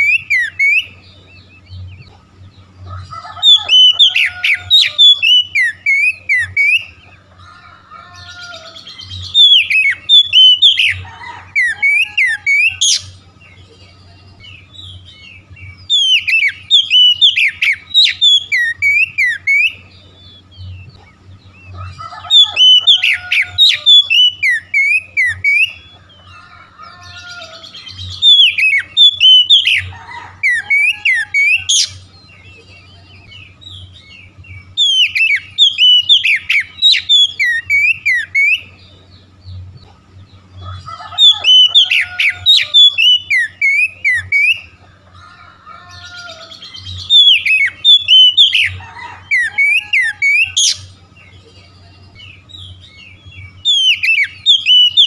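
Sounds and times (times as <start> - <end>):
bird singing whistles and chirps: 0.0 - 2.6, 3.3 - 7.1, 8.2 - 26.3, 27.0 - 39.7, 41.1 - 44.8, 45.9 - 55.0.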